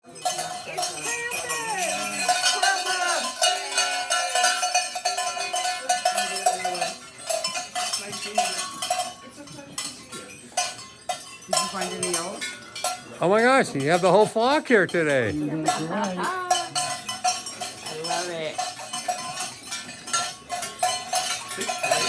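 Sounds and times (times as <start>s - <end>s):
cowbells clanging and jangling: 0.0s - 22.0s.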